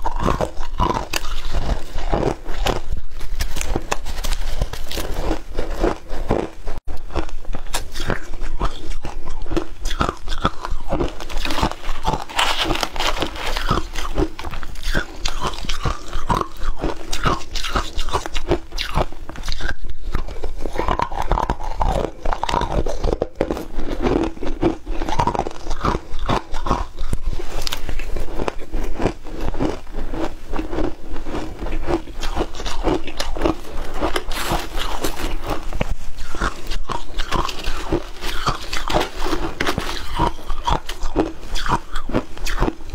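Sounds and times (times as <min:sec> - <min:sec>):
crunching ice in mouth: 0:00.0 - 0:42.9.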